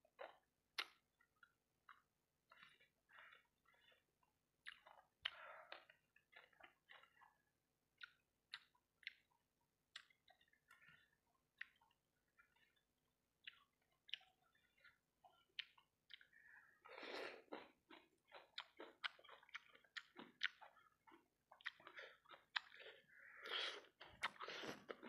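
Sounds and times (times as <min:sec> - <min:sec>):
person chewing food: 0:00.1 - 0:25.0.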